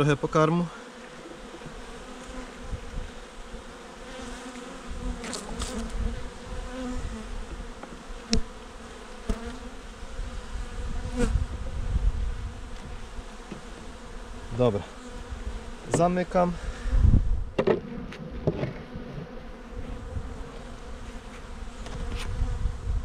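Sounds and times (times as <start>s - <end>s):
bees buzzing: 0.0s - 22.9s.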